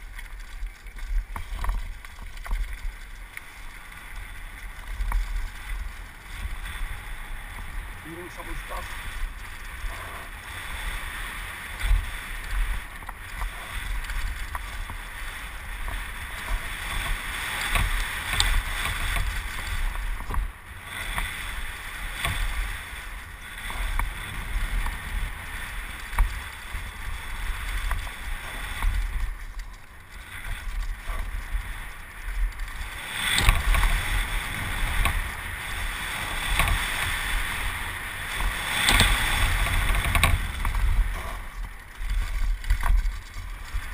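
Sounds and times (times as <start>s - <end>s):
bike clicks and rattles: 0.0s - 43.9s
tyres skidding on loose dirt: 0.0s - 43.9s
wind buffeting camera: 0.0s - 43.9s.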